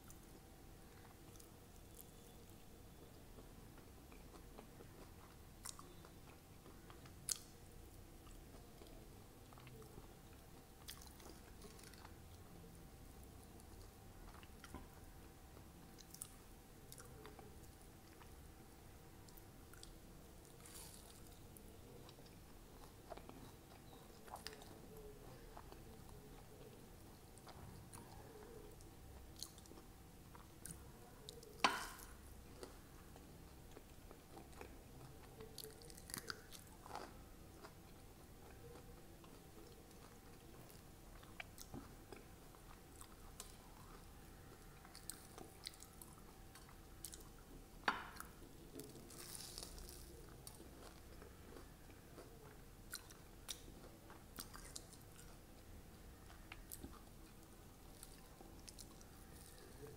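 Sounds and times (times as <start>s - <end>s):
chewing crispy food: 3.0s - 18.5s, 19.2s - 59.9s.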